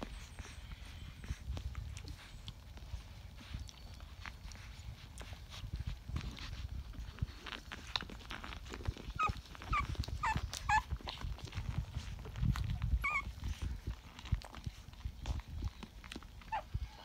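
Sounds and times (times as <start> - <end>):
puppies suckling: 0.0 - 17.0
puppy squeaks and whimpers: 0.0 - 17.0.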